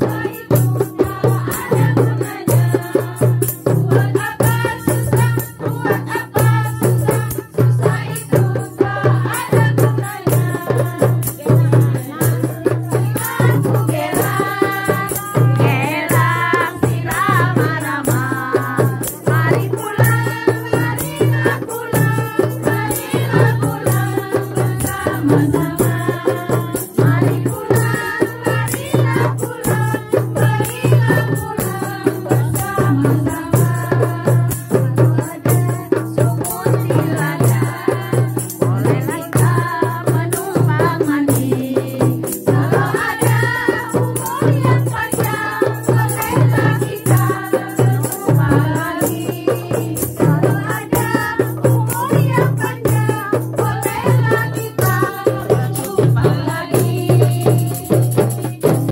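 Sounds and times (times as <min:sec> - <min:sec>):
frame drums beating: 0:00.0 - 0:58.9
women singing together: 0:00.0 - 0:58.9.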